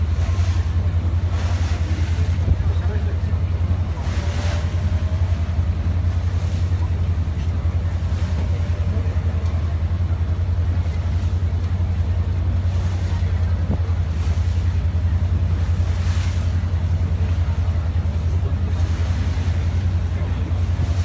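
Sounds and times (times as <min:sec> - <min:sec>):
boat engine droning: 0:00.0 - 0:21.0
water rushing: 0:00.0 - 0:21.0
wind: 0:00.0 - 0:21.0.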